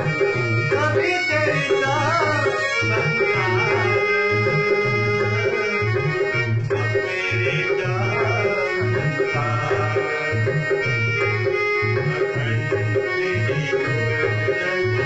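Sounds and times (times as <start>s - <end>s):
repeating percussion rhythm: 0.0s - 14.8s
electronic keyboard melody: 0.0s - 15.0s.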